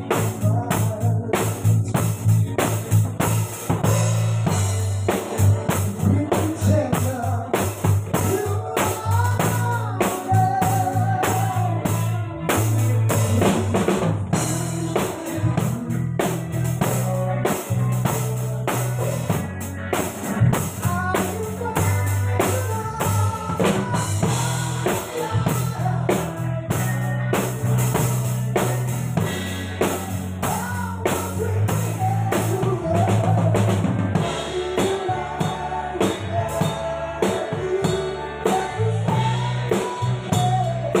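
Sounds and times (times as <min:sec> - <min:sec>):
drum kit played hard: 0:00.0 - 0:41.0
live band music: 0:00.0 - 0:41.0.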